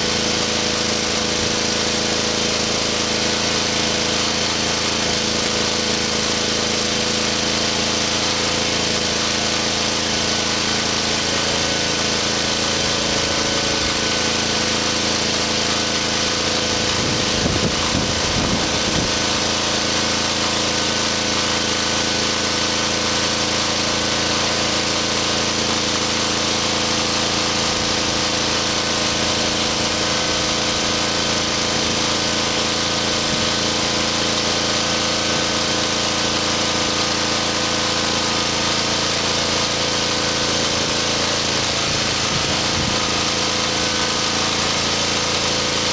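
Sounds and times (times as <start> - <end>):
diesel generator running: 0.0 - 45.9.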